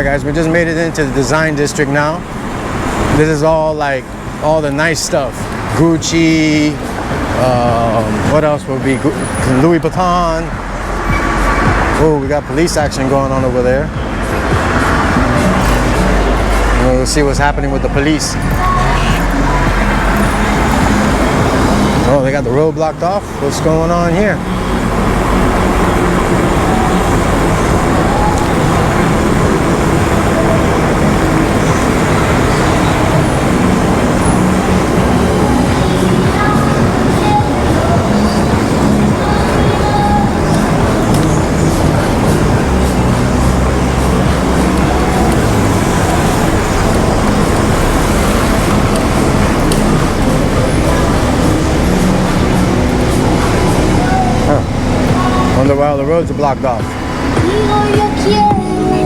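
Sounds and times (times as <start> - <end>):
loud road noise: 0.0 - 59.0.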